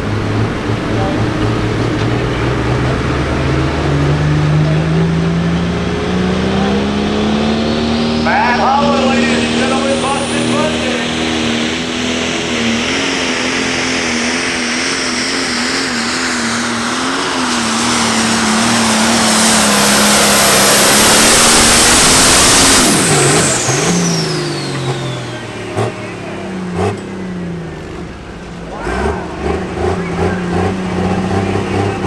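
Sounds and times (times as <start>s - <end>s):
turbo whine: 0.0s - 26.0s, 28.0s - 32.0s
tractor diesel engine running: 0.0s - 32.0s.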